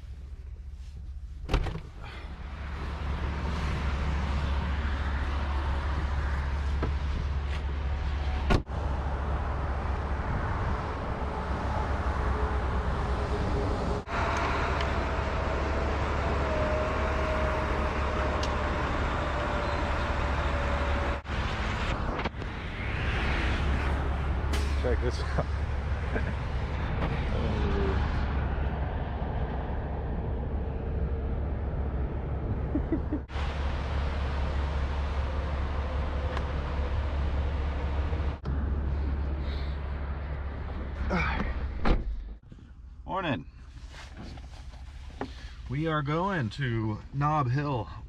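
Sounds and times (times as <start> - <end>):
vehicle road and engine noise: 0.0 - 48.0.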